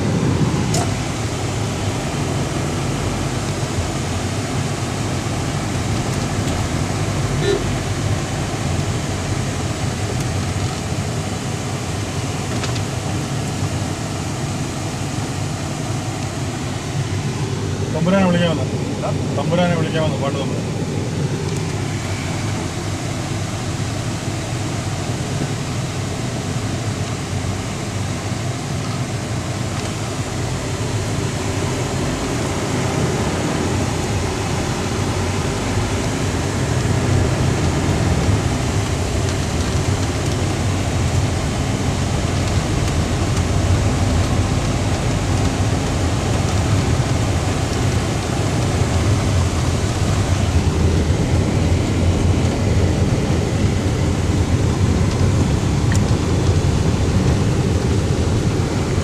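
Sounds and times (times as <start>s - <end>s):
moving vehicle rumble: 0.0s - 59.0s.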